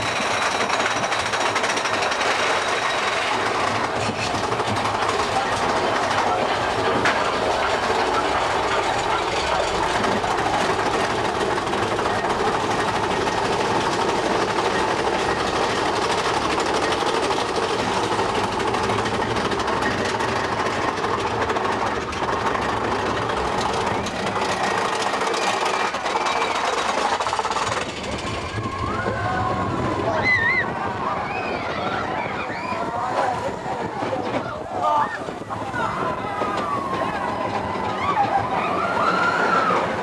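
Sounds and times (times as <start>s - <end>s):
roller coaster train rumbling: 0.0s - 40.0s.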